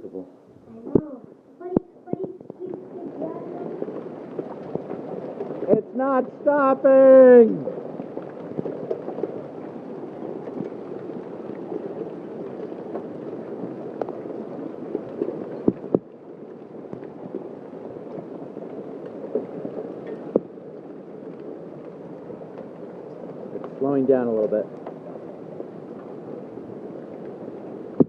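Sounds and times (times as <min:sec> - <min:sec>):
hailstones pelting the ground: 0:00.7 - 0:28.0.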